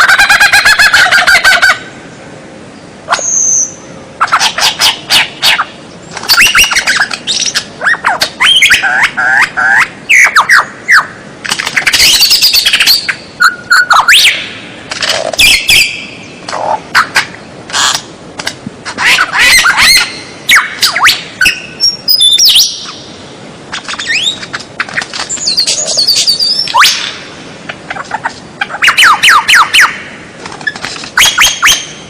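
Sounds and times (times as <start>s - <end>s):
songbird singing: 0.0s - 18.2s, 18.8s - 32.0s.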